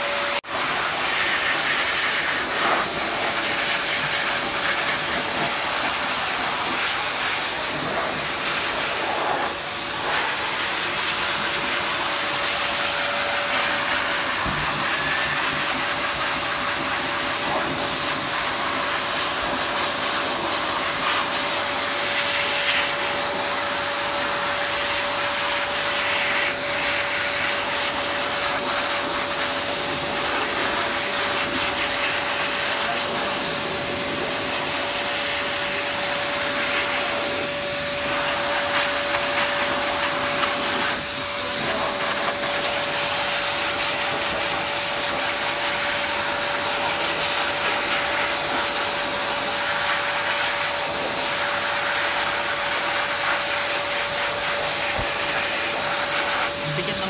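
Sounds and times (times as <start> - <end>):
blower dryer rushing air: 0.0 - 57.0.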